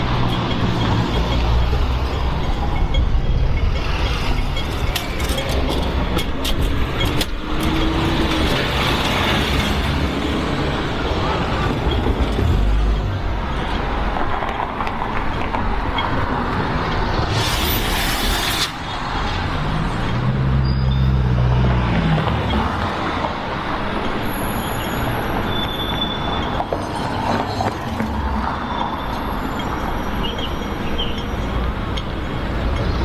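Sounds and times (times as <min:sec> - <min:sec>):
road traffic: 0:00.0 - 0:33.0.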